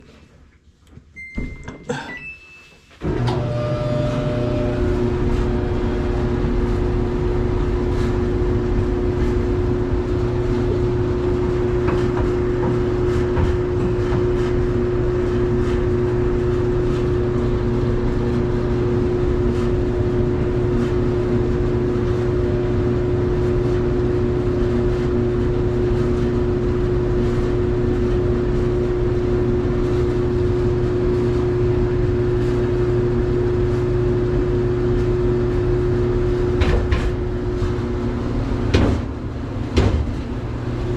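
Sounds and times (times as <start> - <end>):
clothes dryer humming: 0.0 - 40.9.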